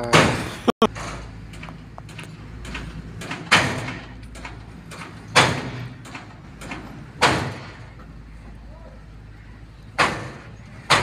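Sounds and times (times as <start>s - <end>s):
loud bangs: 0.0s - 8.1s, 9.8s - 11.0s.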